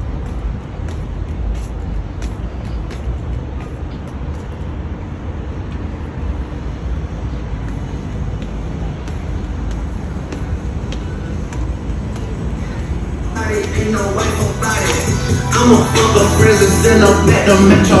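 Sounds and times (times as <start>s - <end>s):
distant city traffic hum: 0.0s - 18.0s.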